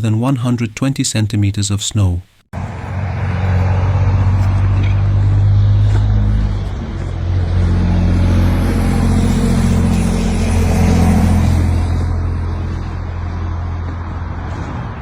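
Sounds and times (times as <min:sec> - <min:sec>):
vehicle engine running: 0:02.6 - 0:15.0.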